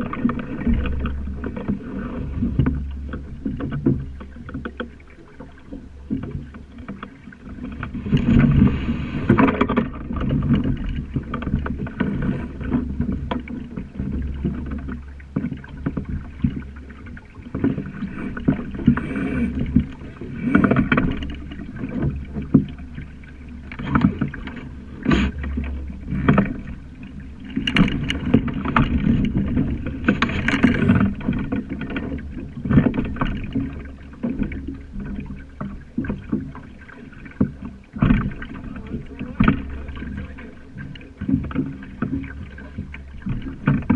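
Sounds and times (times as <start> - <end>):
boat knocks and clatters: 0.0 - 43.9
water slapping along hull: 0.0 - 43.9.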